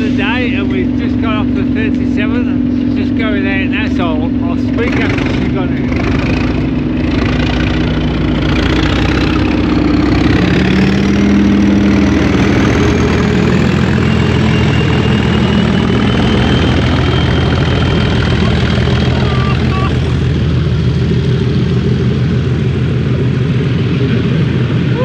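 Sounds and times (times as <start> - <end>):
diesel locomotive engine: 0.0 - 25.0.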